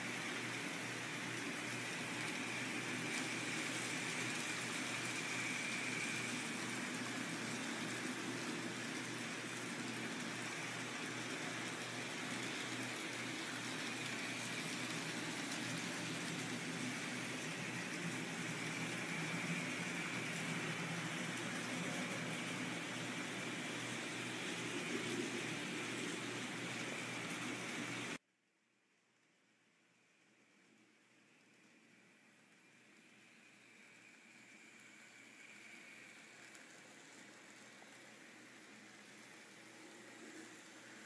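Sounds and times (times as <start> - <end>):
model trains running on track: 0.0 - 28.2, 29.9 - 41.0.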